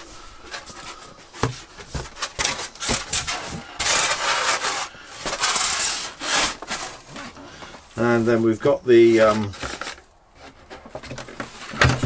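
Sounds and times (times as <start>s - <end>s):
foam scraping against cardboard: 0.5s - 12.0s.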